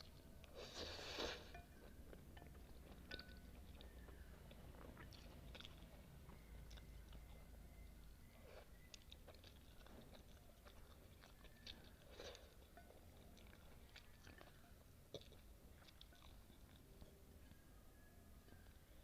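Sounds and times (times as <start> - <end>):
person chewing noodles: 0.0 - 17.6.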